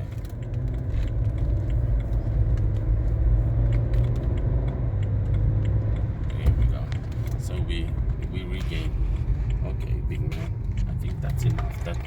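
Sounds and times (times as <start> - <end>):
diesel engine accelerating: 0.0 - 12.0.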